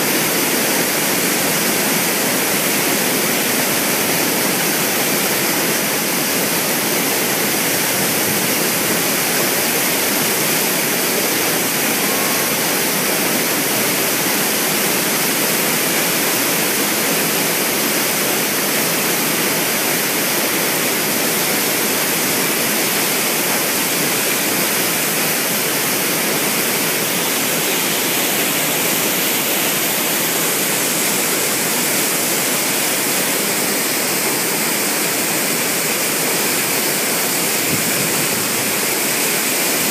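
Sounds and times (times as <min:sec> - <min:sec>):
water rushing from a dam: 0:00.0 - 0:39.9.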